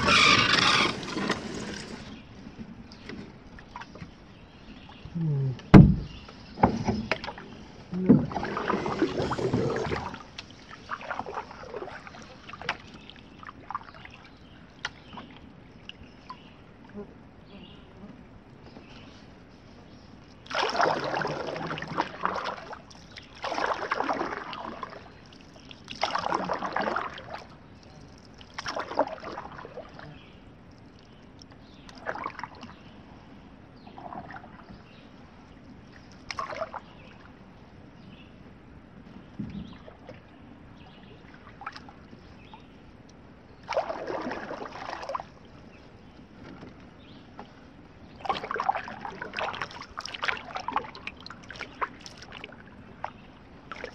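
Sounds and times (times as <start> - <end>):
paddle splashing water: 0.0 - 16.6, 18.7 - 33.1, 33.8 - 38.4, 39.2 - 53.9.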